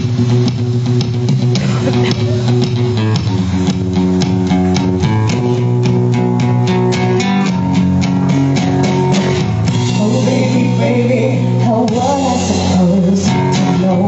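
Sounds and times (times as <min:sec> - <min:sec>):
guitars picking quick notes: 0:00.0 - 0:14.0
sustained bass line: 0:00.0 - 0:14.0.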